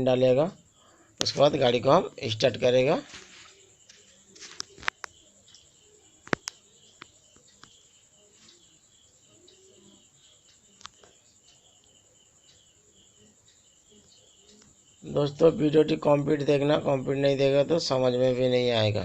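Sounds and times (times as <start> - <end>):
faint high bird chirping: 0.0 - 19.0.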